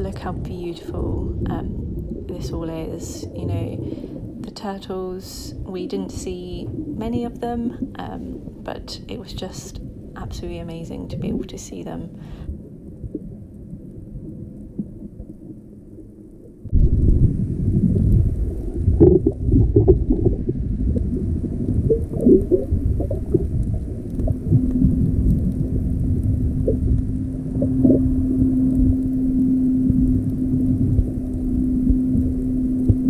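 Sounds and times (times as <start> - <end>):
muffled underwater water rumble: 0.0 - 33.0
steady low hum: 0.0 - 33.0.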